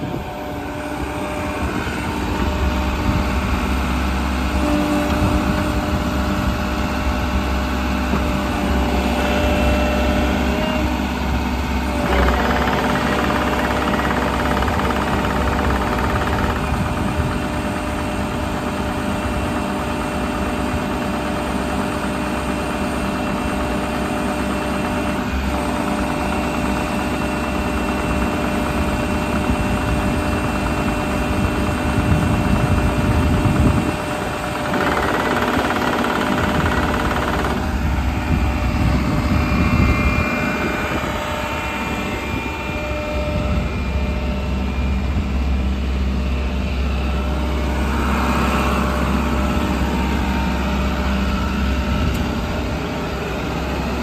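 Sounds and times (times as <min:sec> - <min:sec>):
diesel excavator engine idling: 0:00.0 - 0:54.0.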